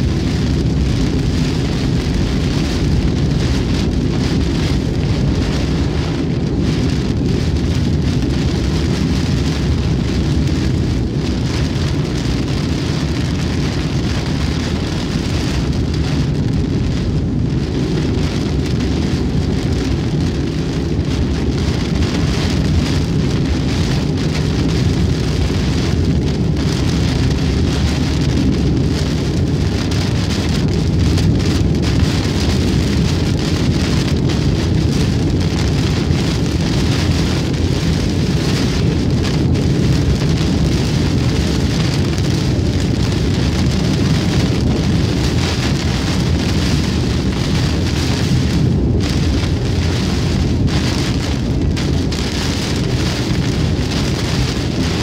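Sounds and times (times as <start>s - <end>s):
heavy rain on car roof: 0.0s - 55.0s
tyre noise on wet road: 0.0s - 55.0s.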